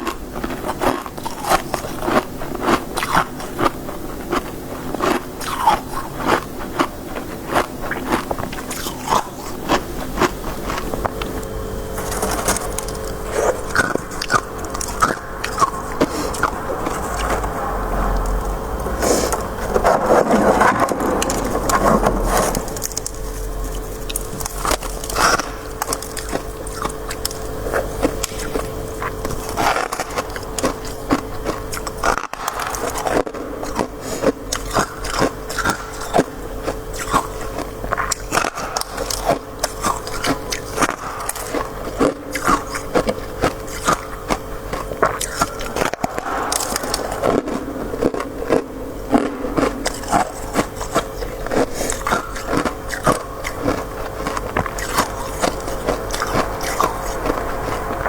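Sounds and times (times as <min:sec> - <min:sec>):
chewing crunchy ice: 0:00.0 - 0:58.0.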